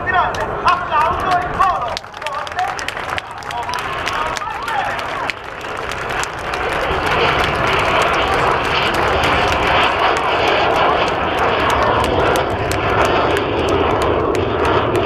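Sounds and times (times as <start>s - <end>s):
jet roar passing low: 0.0s - 15.0s.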